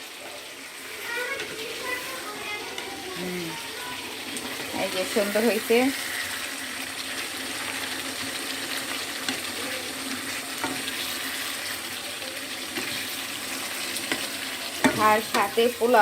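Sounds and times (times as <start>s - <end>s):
food sizzling in a pot: 0.0s - 16.0s.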